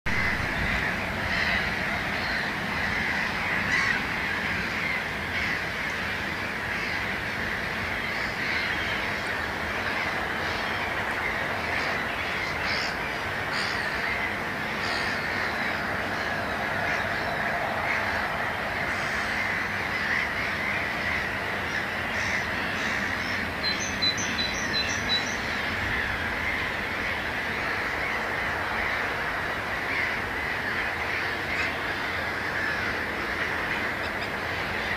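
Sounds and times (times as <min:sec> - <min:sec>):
water birds calling: 0:00.1 - 0:34.9.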